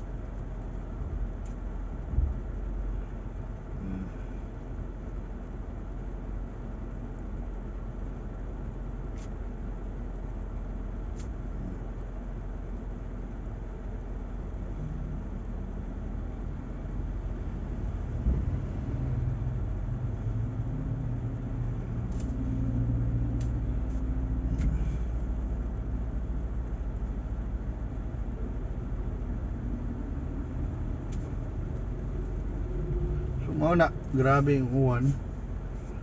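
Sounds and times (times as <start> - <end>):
car engine rumble: 0.0 - 36.0
road noise: 0.0 - 36.0.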